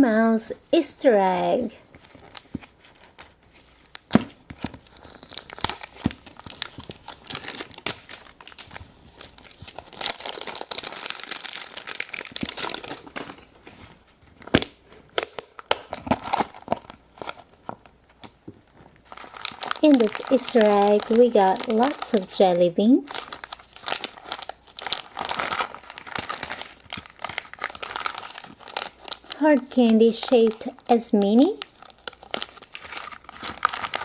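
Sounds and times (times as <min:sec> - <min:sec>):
wrapping crinkling and tearing: 0:01.7 - 0:34.0.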